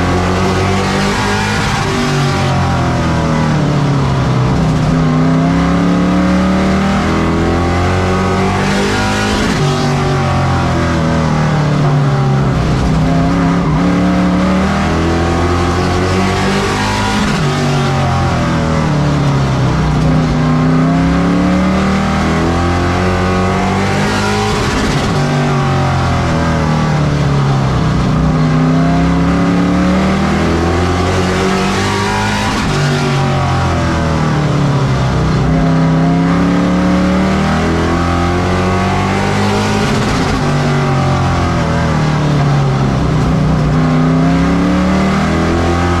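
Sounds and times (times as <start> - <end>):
racing truck engines: 0.0 - 46.0.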